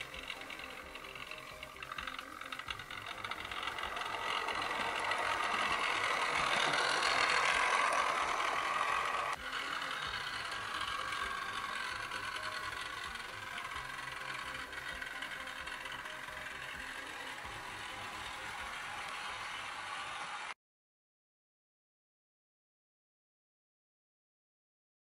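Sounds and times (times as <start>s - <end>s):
model train motor hum: 0.0s - 20.6s
model train wheel noise: 0.0s - 20.6s.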